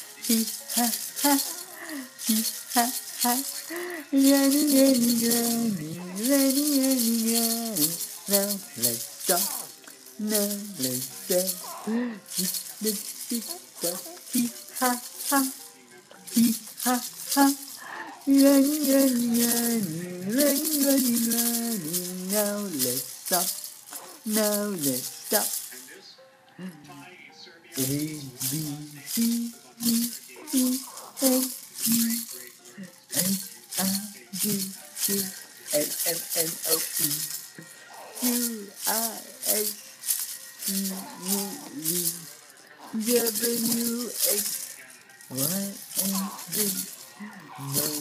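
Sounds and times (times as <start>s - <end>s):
baby rattle shaken: 0.0s - 26.0s, 27.8s - 48.0s
person singing to a baby: 0.0s - 48.0s.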